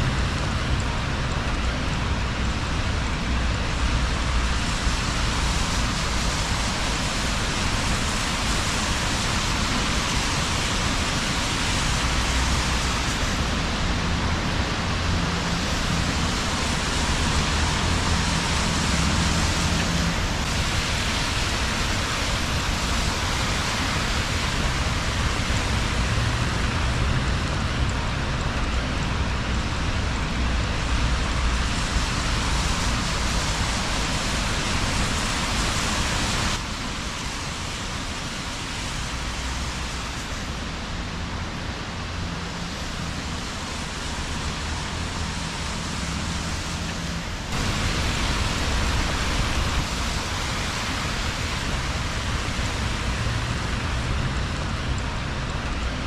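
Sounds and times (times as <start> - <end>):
passing traffic rumble: 0.0 - 56.0
rain on a wet street: 0.0 - 56.0.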